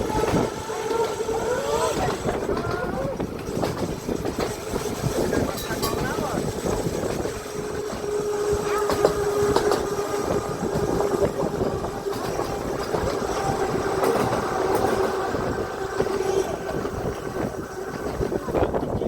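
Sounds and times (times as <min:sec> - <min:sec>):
electric tram drive hum: 0:00.0 - 0:19.0
wheel rumble: 0:00.0 - 0:19.0.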